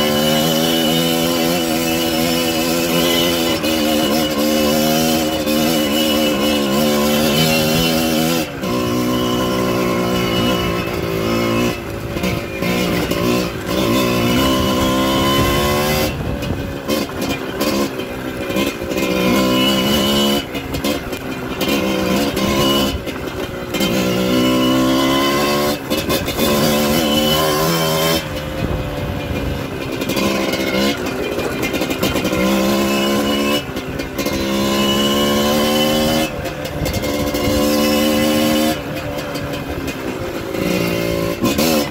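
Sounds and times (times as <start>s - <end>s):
small motorcycle engine revving: 0.0s - 41.9s.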